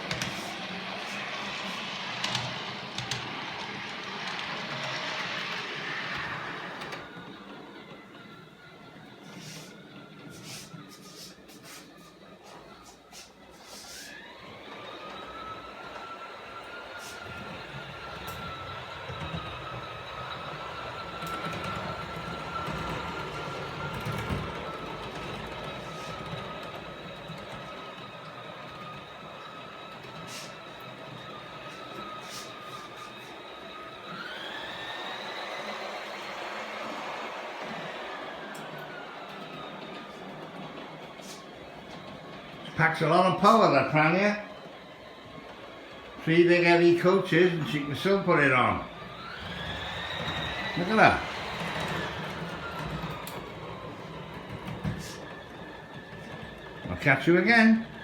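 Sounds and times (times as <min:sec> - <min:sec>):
sharp clicks of train wheels: 0:00.0 - 0:08.5, 0:12.7 - 0:58.0
model train rolling on track: 0:00.0 - 0:58.0.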